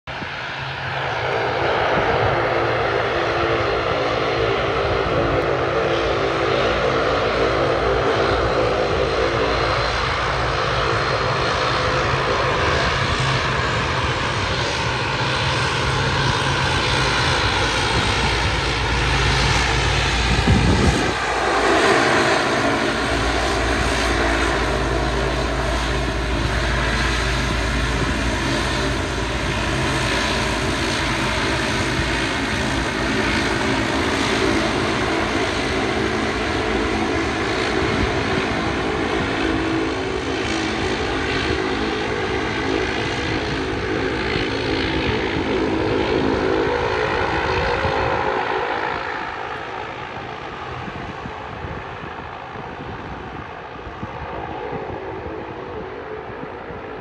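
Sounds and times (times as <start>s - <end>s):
jet engines whining: 0.1s - 57.0s.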